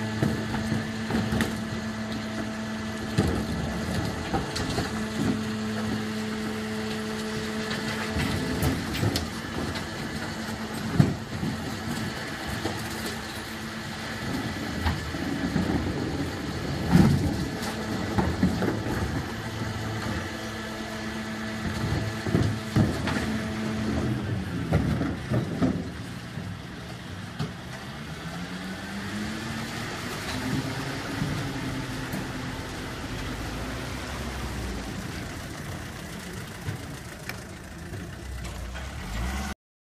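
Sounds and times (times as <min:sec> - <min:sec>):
lorry engine droning: 0:00.0 - 0:39.6.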